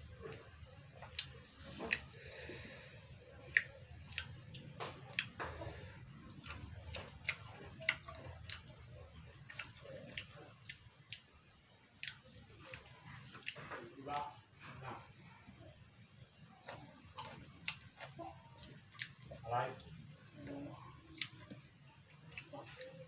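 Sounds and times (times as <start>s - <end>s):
person chewing crunchy fruit: 0.0s - 15.0s, 16.1s - 23.0s.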